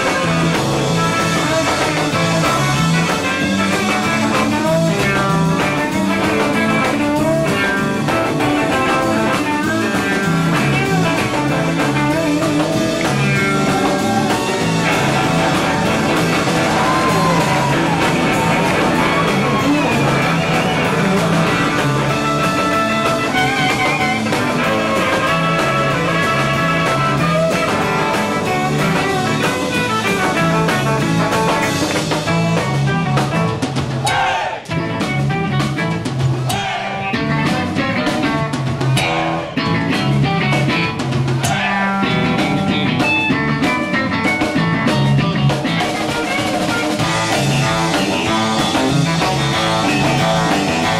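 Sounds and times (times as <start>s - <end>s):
electric lead guitar with gliding notes: 0.0s - 33.8s, 34.7s - 36.4s, 37.0s - 50.9s
drum kit: 0.0s - 50.9s
electric bass: 0.0s - 50.9s.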